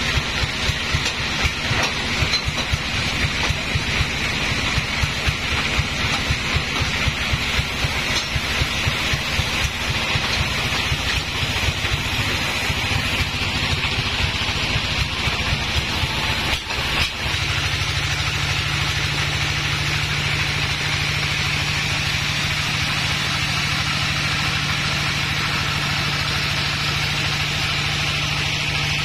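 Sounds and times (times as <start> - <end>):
engine throbbing low: 0.0 - 29.0.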